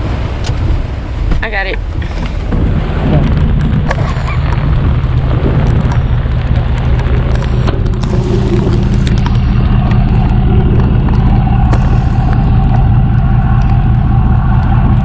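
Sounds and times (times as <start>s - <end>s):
truck engine humming: 0.0s - 15.0s.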